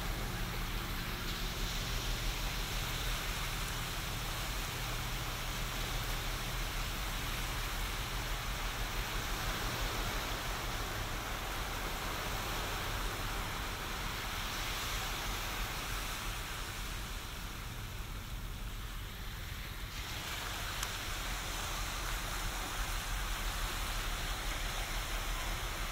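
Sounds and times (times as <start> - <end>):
ocean waves washing onto beach: 0.0 - 25.9.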